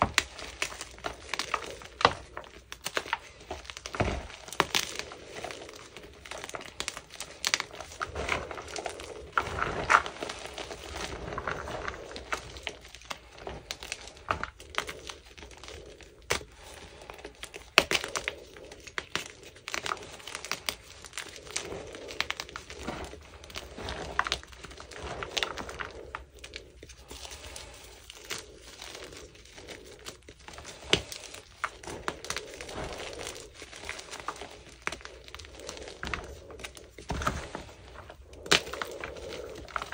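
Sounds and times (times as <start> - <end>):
hands crumbling chalk: 0.0 - 39.9.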